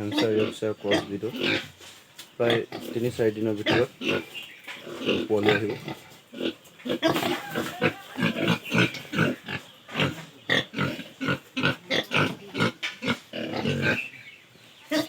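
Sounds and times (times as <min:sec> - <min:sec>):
pigs grunting: 0:00.0 - 0:01.8, 0:02.4 - 0:14.2.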